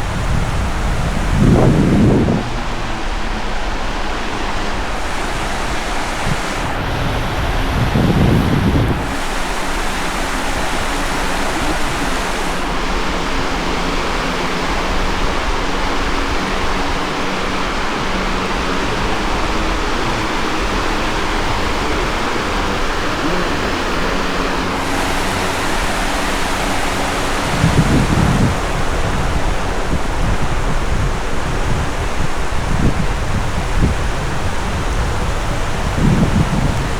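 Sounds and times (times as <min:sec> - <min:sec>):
ocean surf washing ashore: 0:00.0 - 0:36.9
wind hitting microphone: 0:00.0 - 0:36.9.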